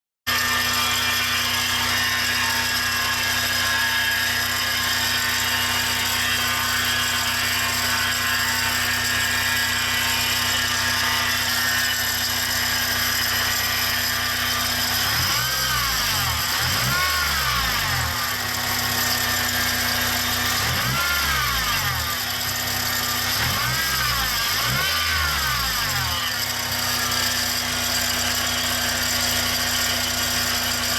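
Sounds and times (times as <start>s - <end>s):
pulley whine: 0.3s - 30.9s
car engine running: 4.3s - 30.9s.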